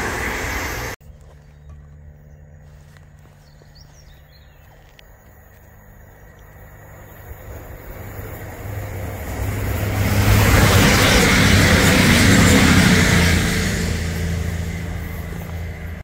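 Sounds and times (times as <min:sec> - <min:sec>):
train approaching: 0:00.0 - 0:16.0.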